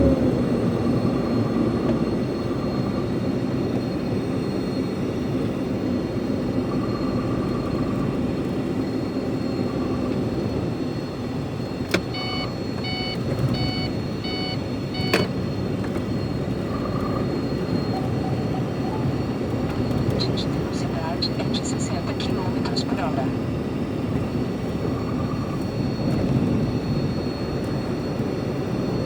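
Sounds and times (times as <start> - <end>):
truck engine and road rumble: 0.0 - 29.0
electronic beeps: 0.5 - 29.0.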